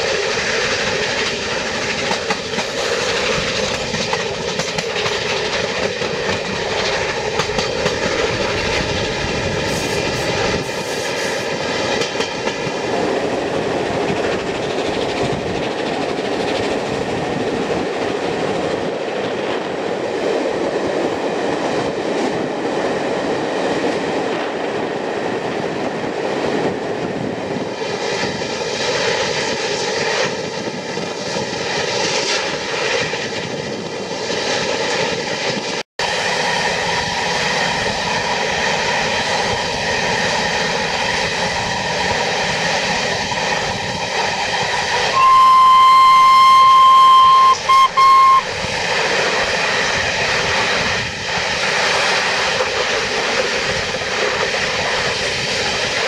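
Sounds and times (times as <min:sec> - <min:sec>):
steam train roaring: 0:00.0 - 0:56.0.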